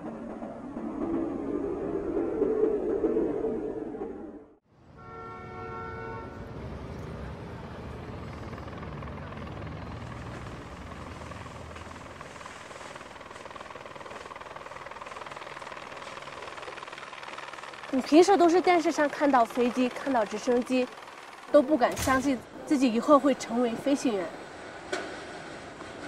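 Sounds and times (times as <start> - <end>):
helicopter running: 0.0 - 4.6, 6.3 - 26.0.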